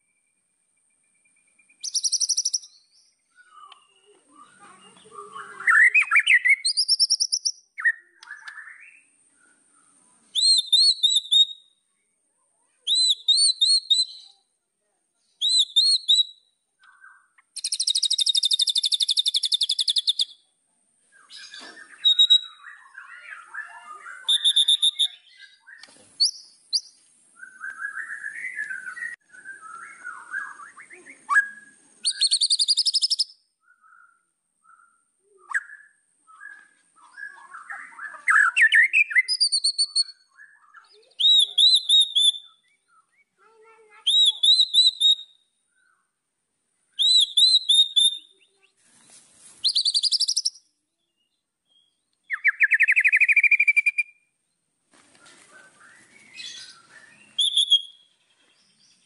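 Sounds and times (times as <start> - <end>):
bird singing whistled phrases: 1.3 - 9.2, 10.3 - 11.8, 12.8 - 14.5, 15.4 - 20.4, 21.2 - 43.3, 44.0 - 46.0, 47.0 - 48.7, 49.6 - 54.3, 55.5 - 59.0.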